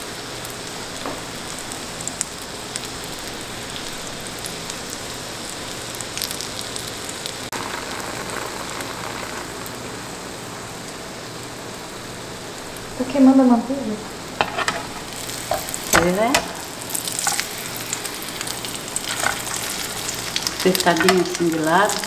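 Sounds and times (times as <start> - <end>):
sandwich sizzling in a pan: 0.0 - 13.4, 14.1 - 22.0.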